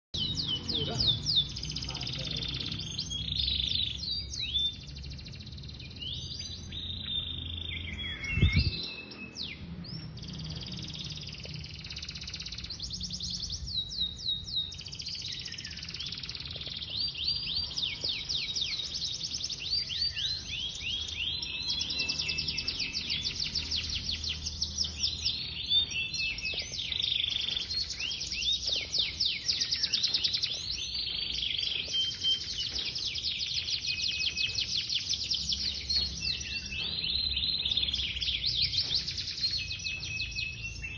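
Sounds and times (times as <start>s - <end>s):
canary singing trills: 0.2s - 40.9s.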